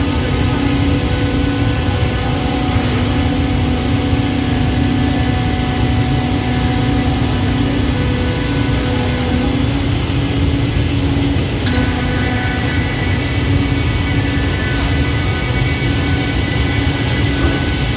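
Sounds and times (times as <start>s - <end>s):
scroll saw droning: 0.0s - 17.9s.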